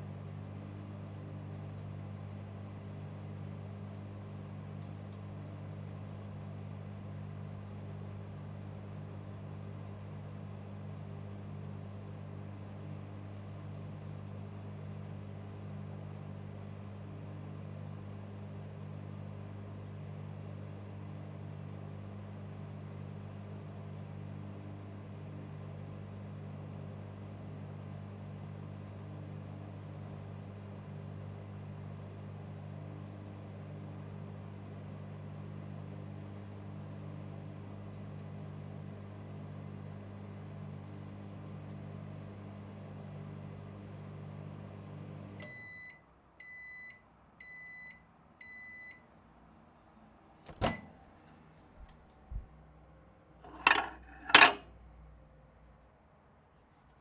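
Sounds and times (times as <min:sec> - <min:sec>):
microwave oven humming: 0:00.0 - 0:57.0.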